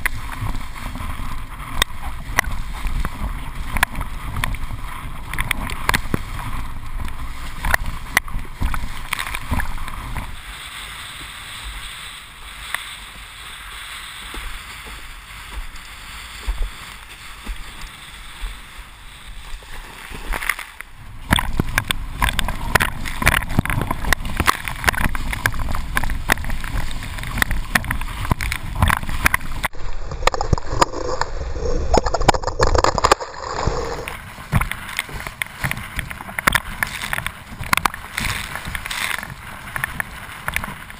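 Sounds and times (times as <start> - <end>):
water rushing and splashing: 0.0 - 40.9.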